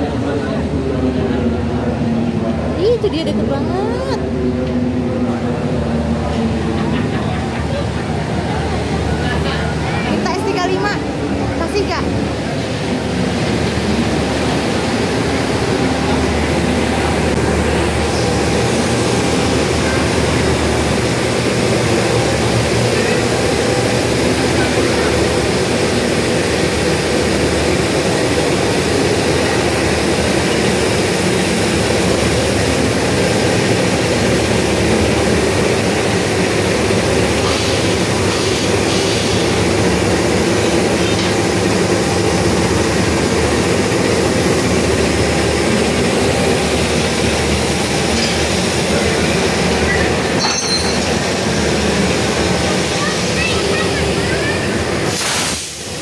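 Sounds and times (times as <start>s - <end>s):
locomotive engine drone: 0.0s - 56.0s.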